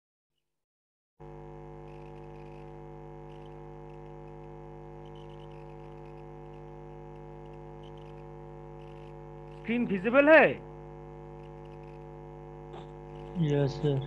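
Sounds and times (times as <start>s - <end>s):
electrical hum: 1.2s - 14.0s.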